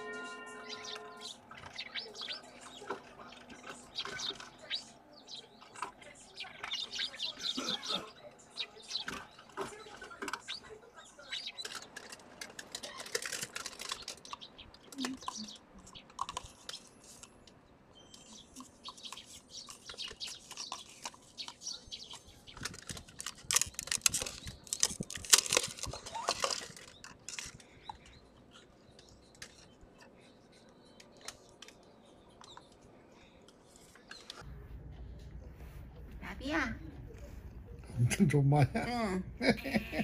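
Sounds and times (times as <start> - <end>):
sparrows chirping: 0.0 - 34.4.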